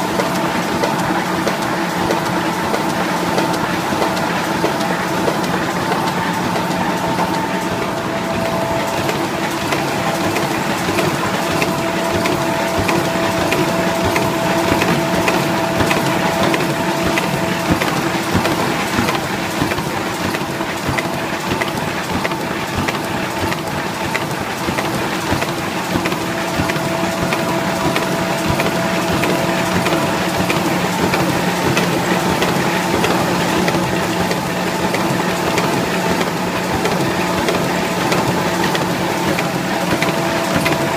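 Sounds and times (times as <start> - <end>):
machine hum: 0.0 - 20.3, 23.8 - 40.9.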